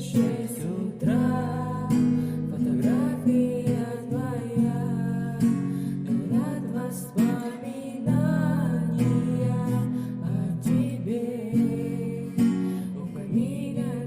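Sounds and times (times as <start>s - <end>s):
acoustic guitar: 0.0s - 14.0s
person singing: 0.0s - 14.0s.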